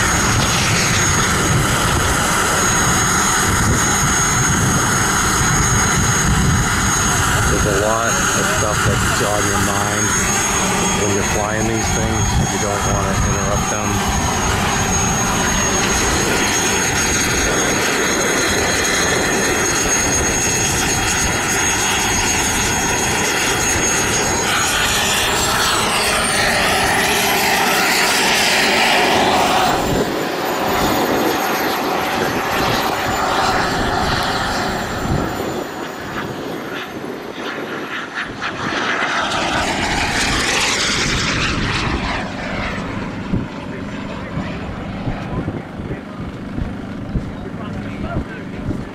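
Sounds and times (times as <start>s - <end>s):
turbine engine whine: 0.0s - 48.9s.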